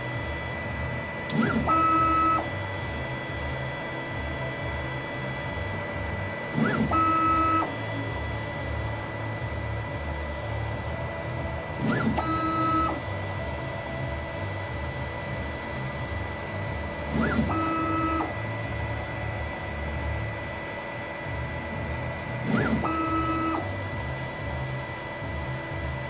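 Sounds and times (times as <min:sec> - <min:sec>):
motor whine rising in pitch: 0:00.0 - 0:26.0
stepper motor buzz: 0:00.0 - 0:26.0.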